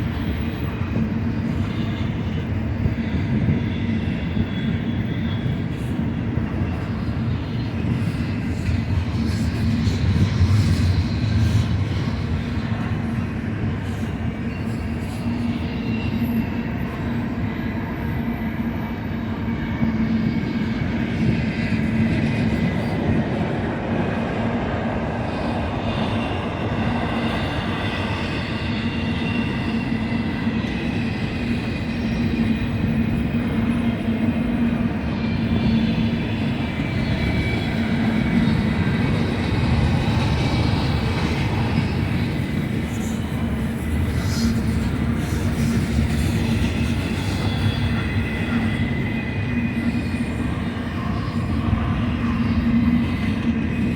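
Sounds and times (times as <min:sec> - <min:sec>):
freight train cars rumbling: 0:00.0 - 0:53.9.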